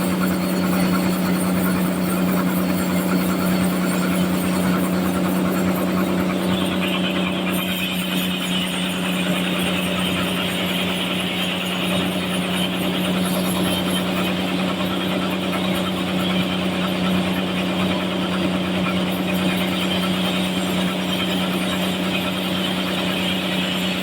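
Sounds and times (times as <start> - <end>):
sawmill sawing log: 0.0 - 24.0.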